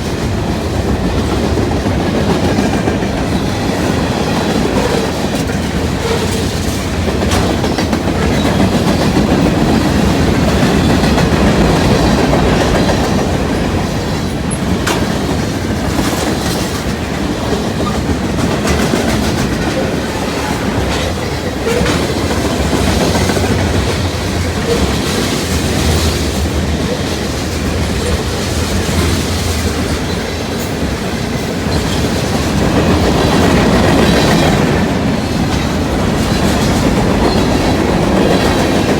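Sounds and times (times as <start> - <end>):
freight train rumbling past: 0.0 - 38.9
wheels clicking over rail joints: 0.0 - 38.9.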